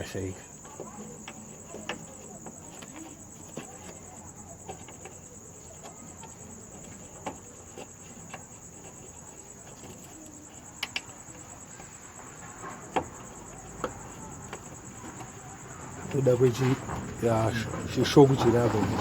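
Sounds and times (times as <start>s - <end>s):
insect chirring: 0.0s - 19.0s
light clicks and taps: 0.7s - 17.2s.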